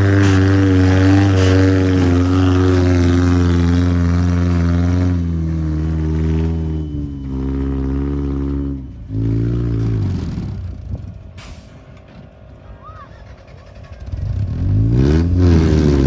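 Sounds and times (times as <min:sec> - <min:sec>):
jeep engine revving: 0:00.0 - 0:11.1, 0:13.3 - 0:16.0.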